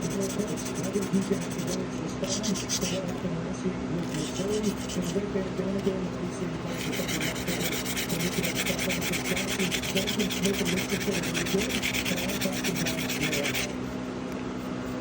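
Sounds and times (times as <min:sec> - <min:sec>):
abrasive rubbing on knife: 0:00.0 - 0:03.2, 0:04.0 - 0:15.0
steady low hum: 0:00.0 - 0:15.0.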